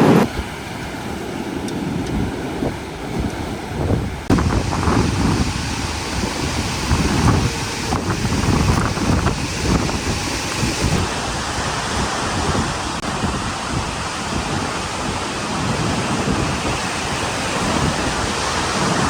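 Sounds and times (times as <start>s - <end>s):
wind gusting over microphone: 0.0s - 19.0s.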